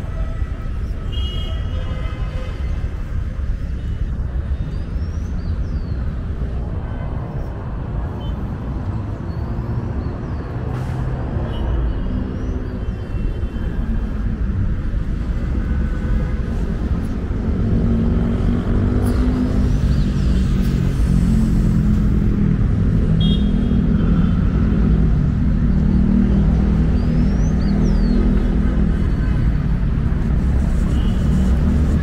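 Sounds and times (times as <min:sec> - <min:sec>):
cars and buses rumbling past: 0:00.0 - 0:32.0.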